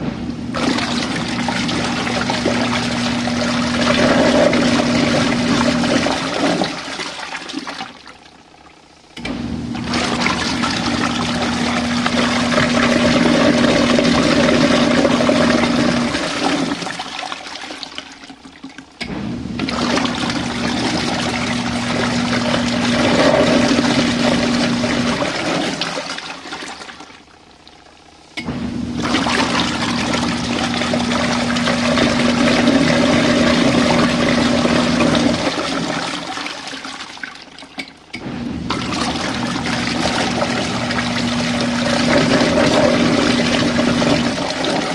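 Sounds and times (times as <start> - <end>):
washing machine churning water: 0.0 - 44.9.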